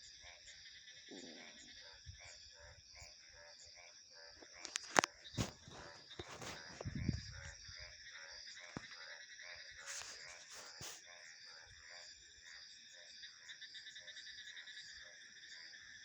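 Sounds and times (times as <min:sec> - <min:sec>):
frogs calling: 0:00.0 - 0:16.0
insects trilling: 0:00.0 - 0:16.0.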